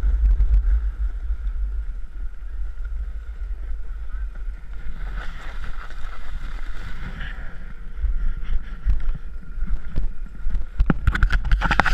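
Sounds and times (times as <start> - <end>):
faint steady whine: 0.0 - 11.9
wind buffeting microphone: 0.0 - 11.9.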